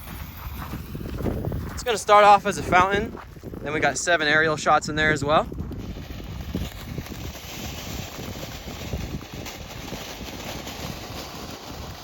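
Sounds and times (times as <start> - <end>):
firework fountain hissing: 0.0 - 3.1, 3.7 - 12.0
firework crackles: 0.0 - 12.0.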